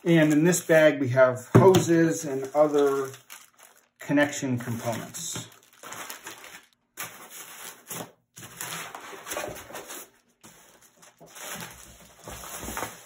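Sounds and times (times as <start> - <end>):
plastic bag rustling: 0.0 - 1.1, 1.8 - 13.0.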